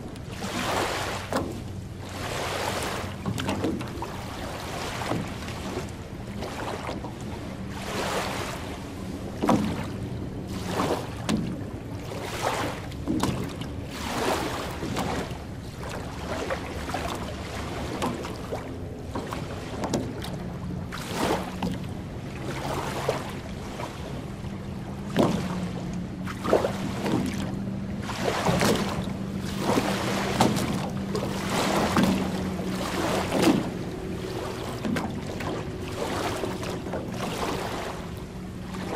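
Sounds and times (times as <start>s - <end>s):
small waves lapping on shore: 0.0s - 38.9s
low steady hum: 3.3s - 38.9s.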